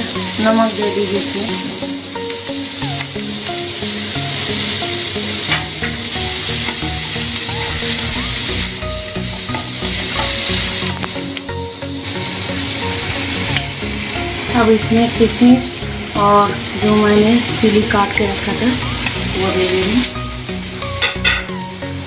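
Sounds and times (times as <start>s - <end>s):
background music with held notes: 0.0s - 22.0s
vegetables sizzling in butter: 0.0s - 22.0s.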